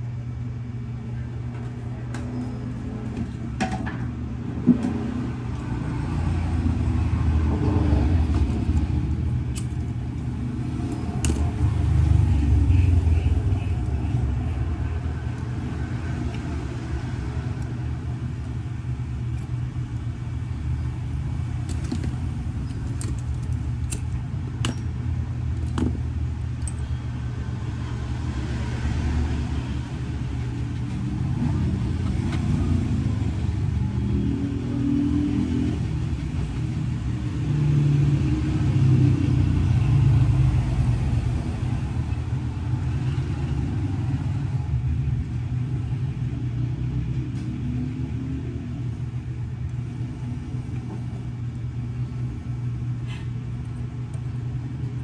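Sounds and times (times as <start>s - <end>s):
low mechanical rumble: 0.0s - 55.0s.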